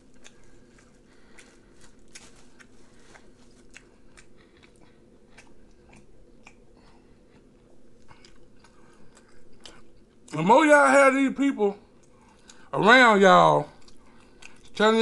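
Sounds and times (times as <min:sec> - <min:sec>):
person chewing food: 0:00.0 - 0:10.4, 0:11.8 - 0:12.7, 0:13.7 - 0:14.8.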